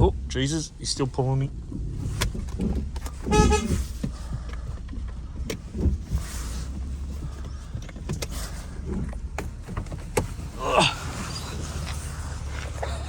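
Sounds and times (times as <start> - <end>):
low vehicle rumble: 0.0 - 13.0
knocks and clunks: 1.5 - 13.0.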